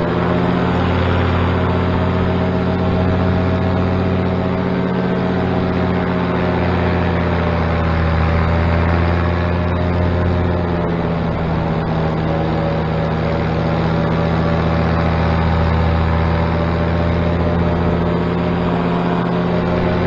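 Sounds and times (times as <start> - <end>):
paramotor engine drone: 0.0 - 20.0.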